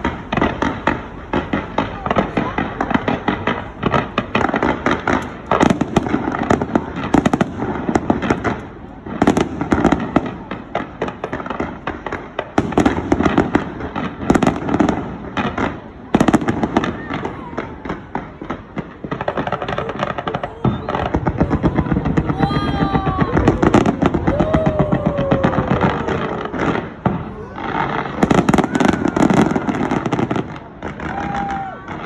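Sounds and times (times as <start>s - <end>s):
fireworks bangs: 0.0s - 32.0s
fireworks crackling and popping: 0.0s - 32.0s.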